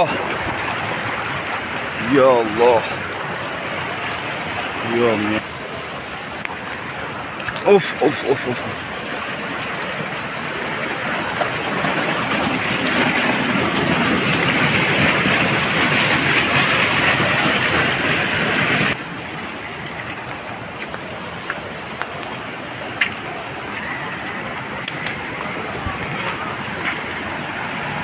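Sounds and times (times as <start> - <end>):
water rushing along gully: 0.0 - 28.0.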